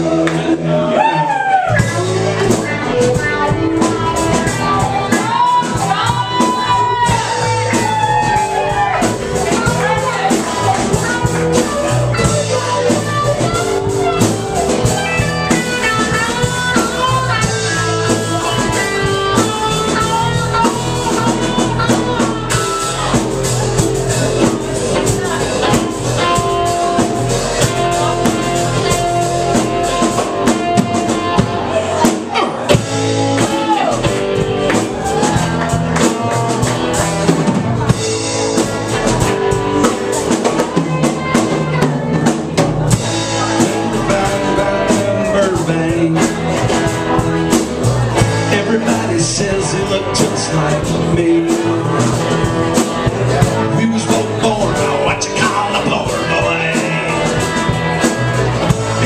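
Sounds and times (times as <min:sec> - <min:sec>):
bending lead guitar notes: 0:00.0 - 0:59.0
rock band playing: 0:00.0 - 0:59.0.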